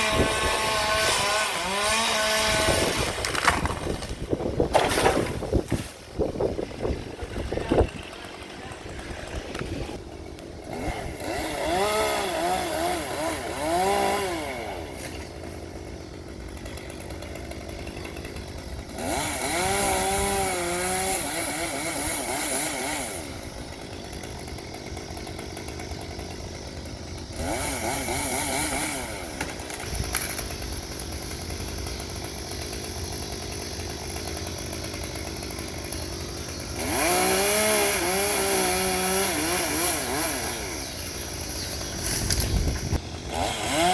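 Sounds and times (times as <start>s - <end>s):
chainsaw revving and cutting: 0.0s - 4.2s, 6.6s - 43.9s.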